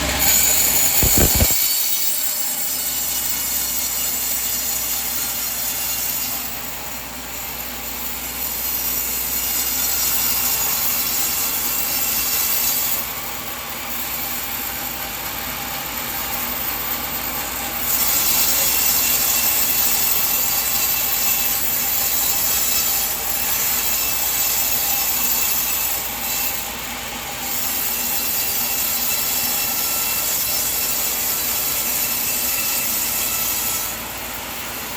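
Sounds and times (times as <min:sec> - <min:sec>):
band saw cutting log: 0:00.0 - 0:34.9.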